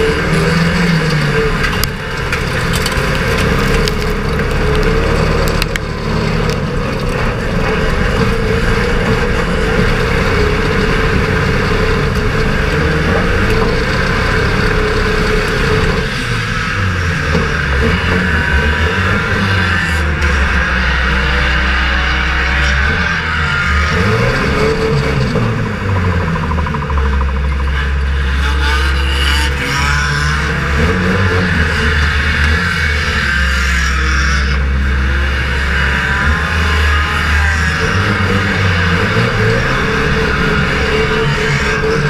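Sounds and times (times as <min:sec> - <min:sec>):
racing car engine revving: 0:00.0 - 0:42.0.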